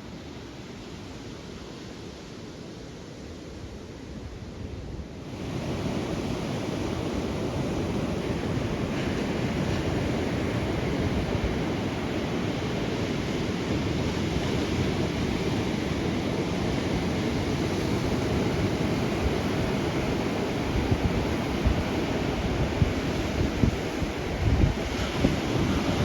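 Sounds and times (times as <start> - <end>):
ocean surf breaking on beach: 0.0 - 26.0
wind buffeting microphone: 4.7 - 26.0.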